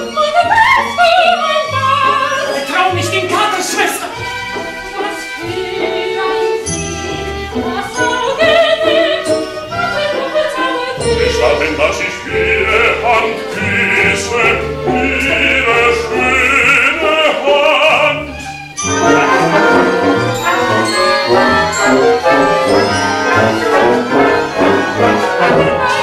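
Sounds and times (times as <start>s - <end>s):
chamber orchestra playing: 0.0s - 26.0s
operatic singing: 0.0s - 26.0s.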